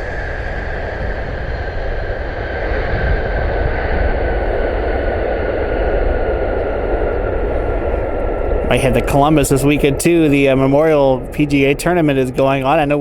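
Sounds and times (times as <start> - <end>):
jet engines whining: 0.0 - 13.0
low jet rumble: 0.0 - 13.0.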